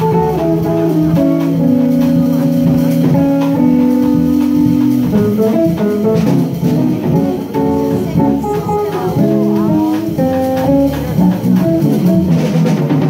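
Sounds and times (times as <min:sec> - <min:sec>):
bass: 0:00.0 - 0:13.0
drum kit: 0:00.0 - 0:13.0
hollow-body electric guitar: 0:00.0 - 0:13.0.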